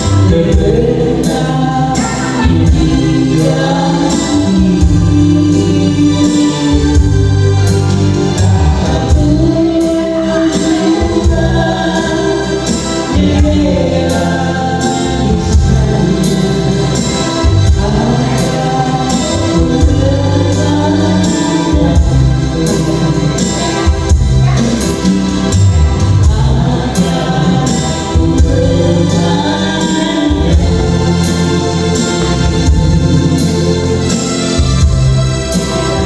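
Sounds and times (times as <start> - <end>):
electronic keyboard accompaniment: 0.0 - 36.0
person singing: 0.0 - 36.0.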